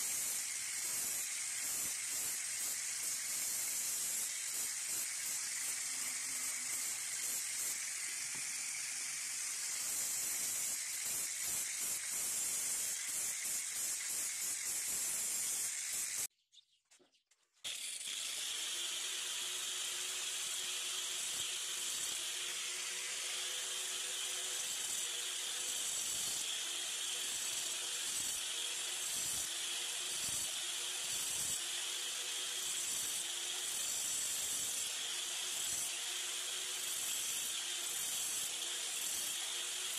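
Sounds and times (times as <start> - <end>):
angle grinder grinding steel: 0.0 - 16.3, 17.7 - 39.9.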